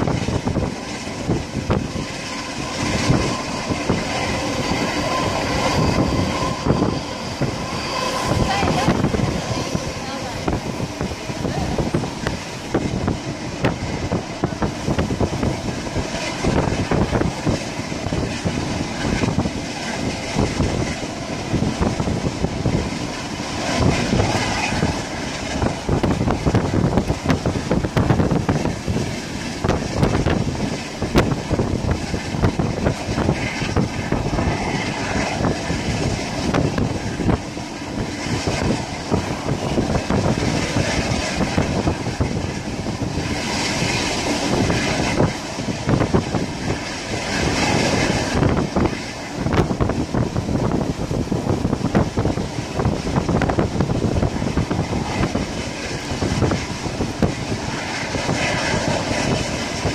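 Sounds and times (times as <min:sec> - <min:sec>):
train carriage rumbling: 0:00.0 - 0:59.9.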